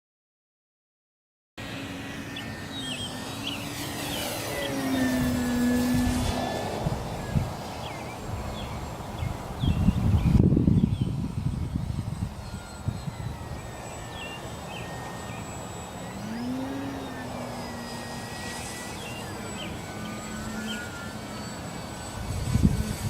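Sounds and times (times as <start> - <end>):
model plane motor humming: 1.6 - 23.0
wind rumbling on microphone: 2.9 - 15.0, 16.0 - 23.0.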